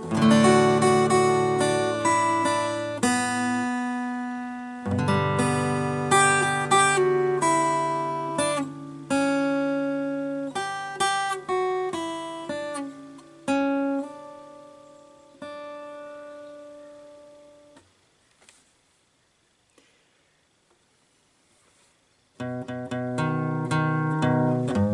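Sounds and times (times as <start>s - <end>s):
guitar plucked notes and chords: 0.0s - 17.8s, 22.4s - 24.9s.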